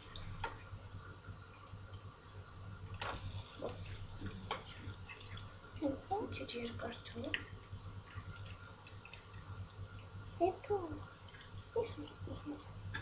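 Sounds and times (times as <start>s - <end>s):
faint frying sizzle: 0.0s - 13.0s
steady low hum: 0.0s - 13.0s.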